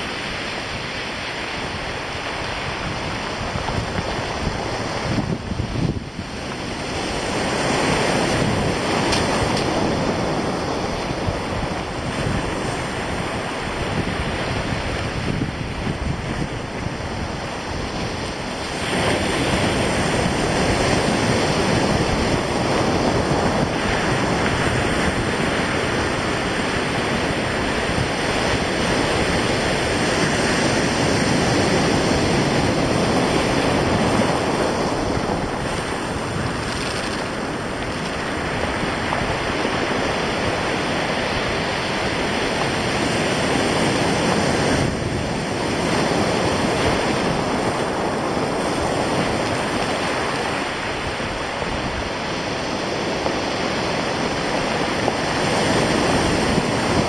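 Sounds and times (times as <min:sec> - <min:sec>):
surf breaking on stony beach: 0:00.0 - 0:57.0
wind on microphone: 0:00.0 - 0:57.0.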